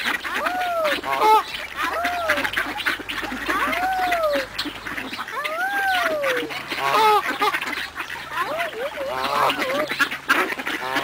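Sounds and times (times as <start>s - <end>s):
ducks quacking: 0.0s - 11.0s
rising and falling duck calls: 0.0s - 11.0s.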